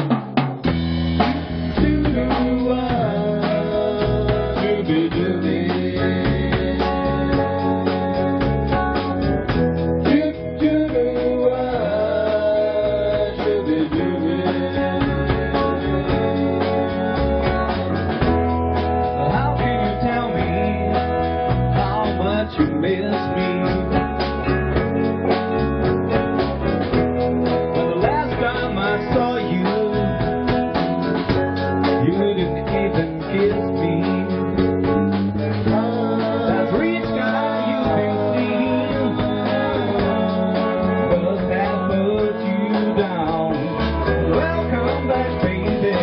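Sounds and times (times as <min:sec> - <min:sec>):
drums: 0:00.0 - 0:46.0
guitar: 0:00.0 - 0:46.0
person singing: 0:01.7 - 0:24.6, 0:27.5 - 0:46.0.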